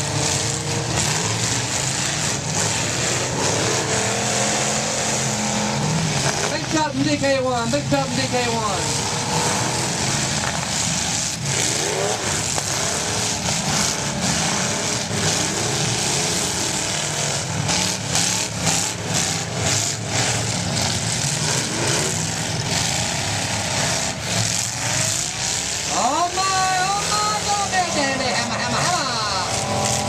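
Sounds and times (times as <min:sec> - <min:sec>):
car engines revving: 0:00.0 - 0:30.0
cars crashing and knocking: 0:00.0 - 0:30.0.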